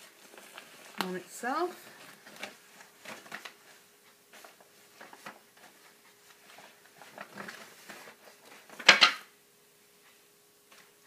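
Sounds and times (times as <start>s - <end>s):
wool fibres rustling and scratching: 0.0s - 8.9s.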